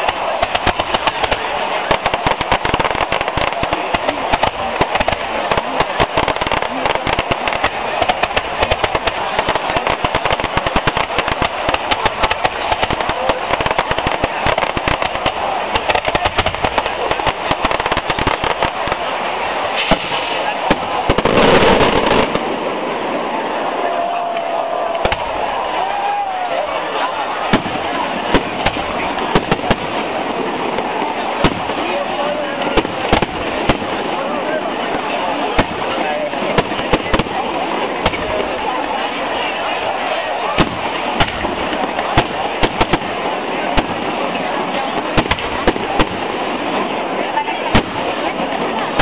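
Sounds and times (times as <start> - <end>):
crowd voices: 0.0 - 49.0
fireworks cracking and banging: 0.0 - 49.0.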